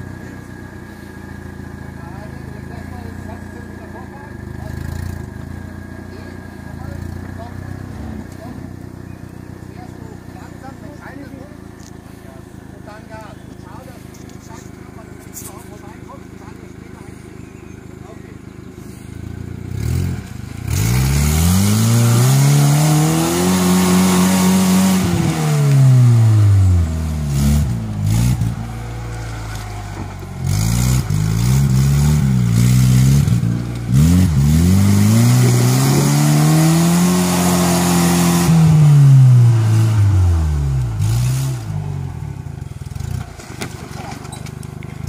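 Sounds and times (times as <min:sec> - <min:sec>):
car engine revving: 0:00.0 - 0:44.0
tyres churning through mud: 0:00.0 - 0:45.0.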